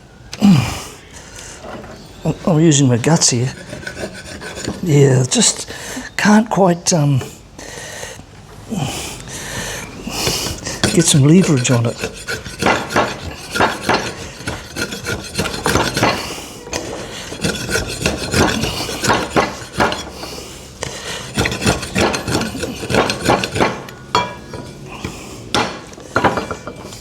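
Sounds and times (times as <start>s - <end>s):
wooden handle scraping metal: 1.3s - 6.6s, 9.4s - 27.0s.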